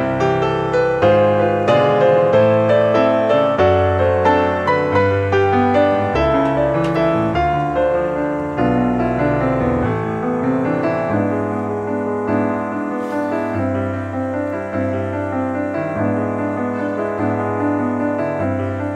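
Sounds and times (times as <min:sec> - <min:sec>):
slow piano melody: 0:00.0 - 0:18.9.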